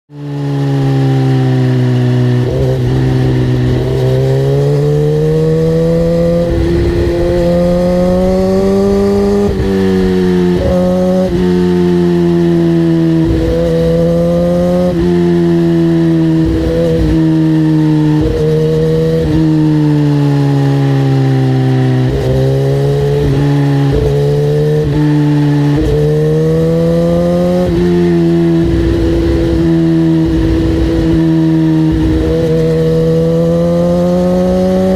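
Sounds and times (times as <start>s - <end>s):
vehicle engine running hard: 0.1s - 34.9s.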